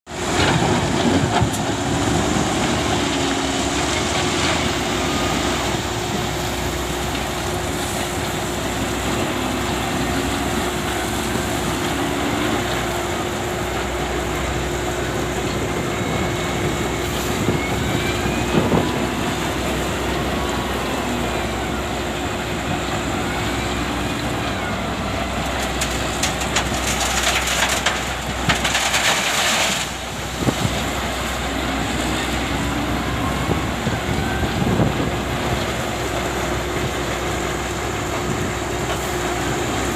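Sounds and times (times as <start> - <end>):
diesel engine running: 0.1 - 39.9.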